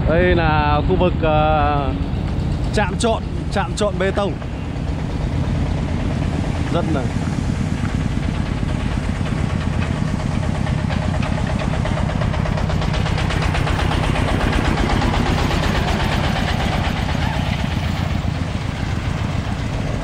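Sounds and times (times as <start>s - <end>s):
concrete mixer engine chugging: 0.0s - 20.0s
rattling noise: 0.0s - 20.0s.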